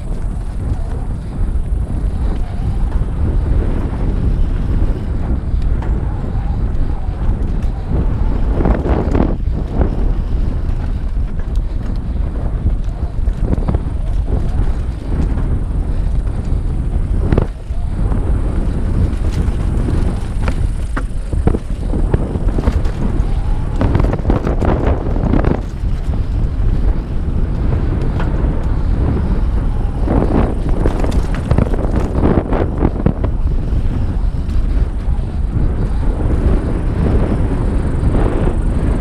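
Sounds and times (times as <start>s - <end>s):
bike rattling over bumps: 0.0s - 39.0s
bike tyre noise on dirt: 0.0s - 39.0s
wind buffeting microphone: 0.0s - 39.0s.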